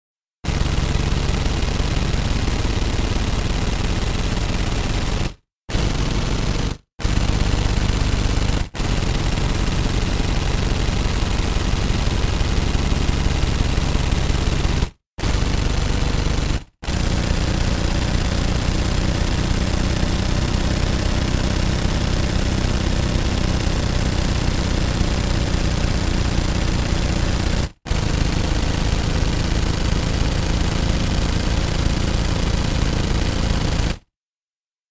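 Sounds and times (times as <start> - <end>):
automatic gunfire: 0.4 - 34.0.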